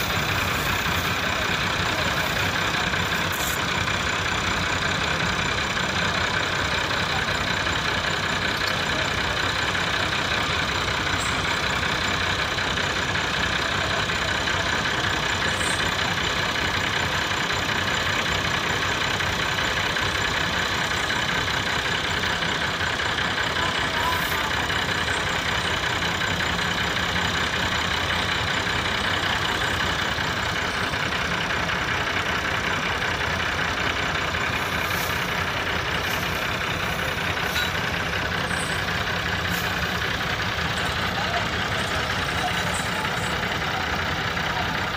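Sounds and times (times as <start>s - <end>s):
tractor diesel engines under load: 0.0s - 44.9s.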